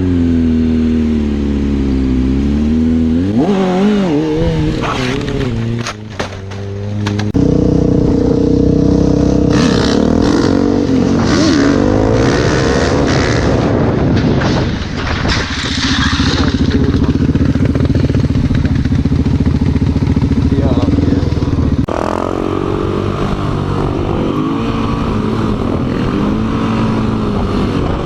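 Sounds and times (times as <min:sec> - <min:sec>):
motorcycle engine running: 0:00.0 - 0:11.2, 0:15.8 - 0:28.0.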